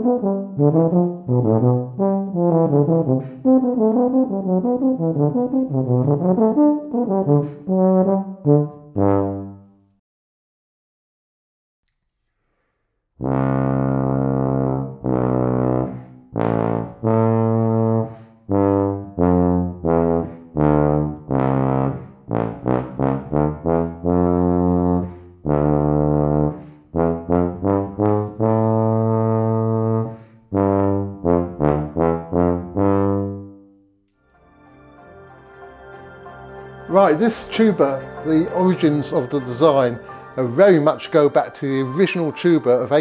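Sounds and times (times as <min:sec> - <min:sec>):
solo tuba playing: 0:00.0 - 0:09.8, 0:13.2 - 0:43.0.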